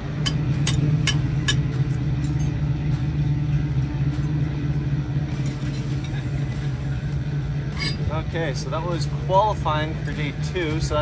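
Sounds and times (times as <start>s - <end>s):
race car engine droning: 0.0s - 11.0s.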